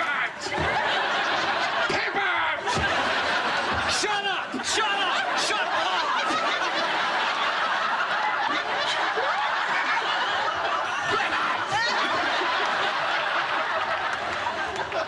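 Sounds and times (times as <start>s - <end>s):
crowd laughing: 0.0s - 15.0s.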